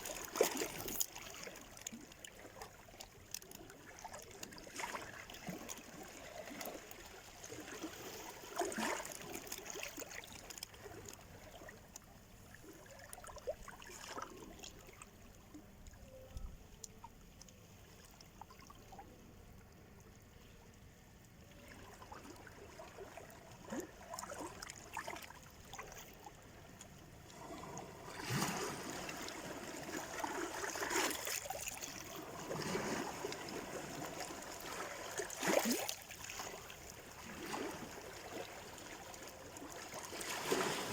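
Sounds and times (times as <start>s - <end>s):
small waves splashing on shore: 0.0s - 15.2s, 21.6s - 40.9s.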